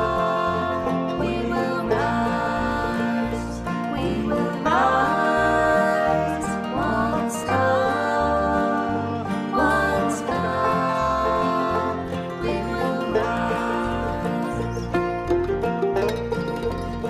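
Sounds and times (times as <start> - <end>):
person singing: 0.0 - 15.3
acoustic guitar: 0.0 - 17.0
bass line: 0.0 - 17.0.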